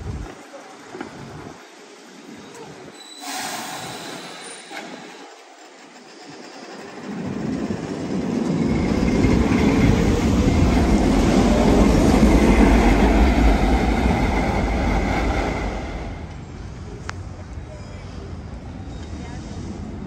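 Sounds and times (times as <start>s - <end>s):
tram rumbling past on rails: 0.0s - 20.0s.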